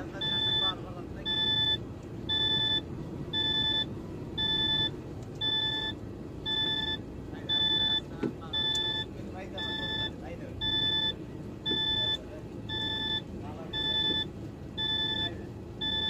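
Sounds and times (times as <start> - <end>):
low steady rumble: 0.0 - 16.0
warning beeper beeping: 0.0 - 16.0.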